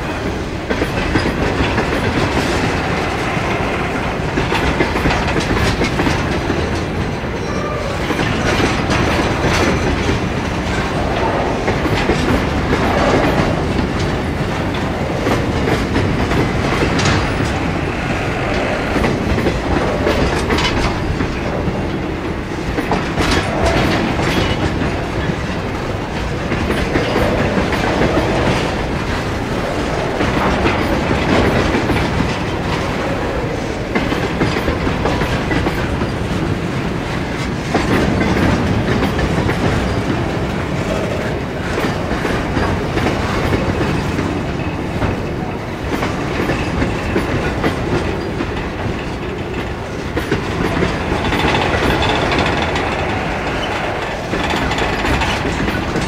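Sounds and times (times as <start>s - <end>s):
train wheels rumbling on rail: 0.0s - 56.0s
wheels clacking over rail joints: 0.0s - 56.0s.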